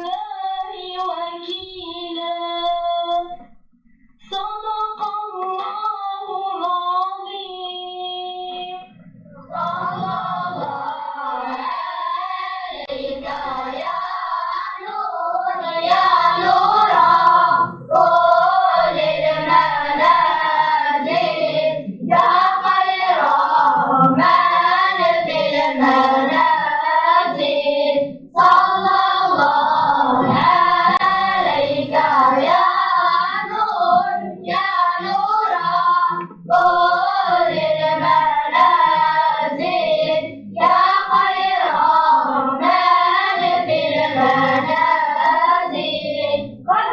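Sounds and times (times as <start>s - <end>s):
children singing together: 0.0s - 3.5s, 4.2s - 46.9s.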